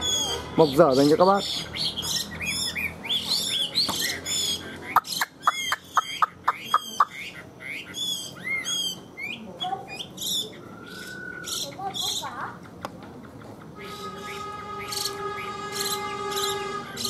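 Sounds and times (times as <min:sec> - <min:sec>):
bird whistling and chirping: 0:00.0 - 0:12.2, 0:13.8 - 0:17.0.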